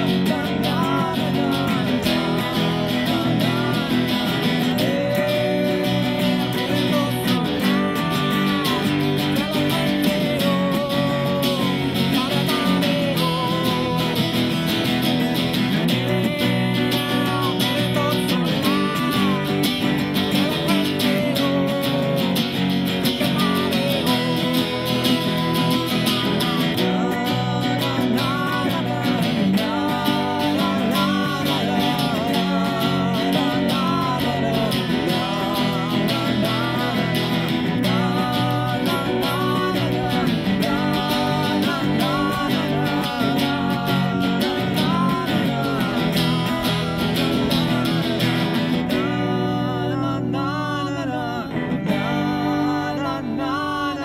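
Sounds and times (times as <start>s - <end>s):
acoustic guitars playing: 0.0s - 54.0s
man singing: 0.0s - 54.0s.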